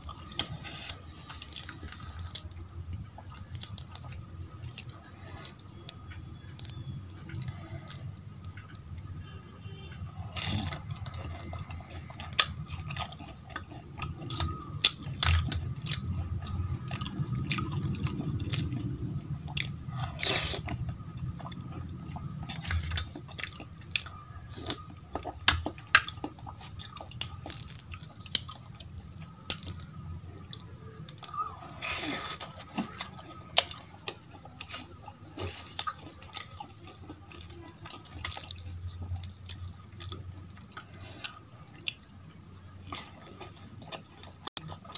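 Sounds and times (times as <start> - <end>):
wet chewing with mouth clicks: 0.0 - 44.9.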